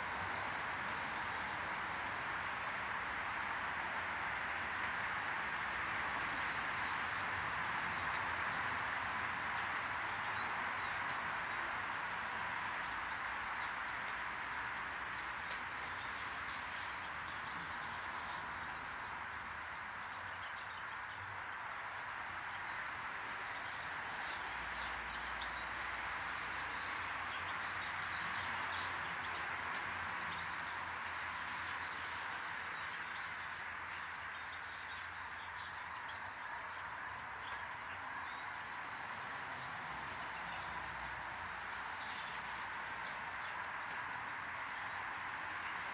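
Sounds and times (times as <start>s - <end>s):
small birds chirping: 4.8s - 45.9s.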